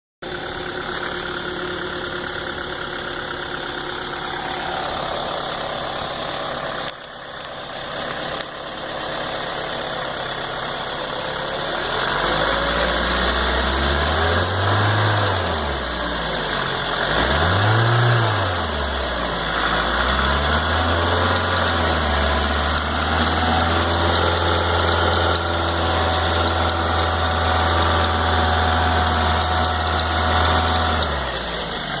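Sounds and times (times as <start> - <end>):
engine knocking and clicking: 0.2 - 8.9, 12.1 - 32.0
car engine revving and idling: 0.2 - 32.0.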